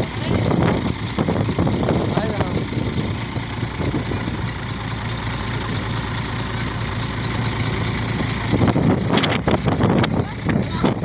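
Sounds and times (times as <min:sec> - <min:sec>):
diesel boat engine running: 0:00.0 - 0:11.0.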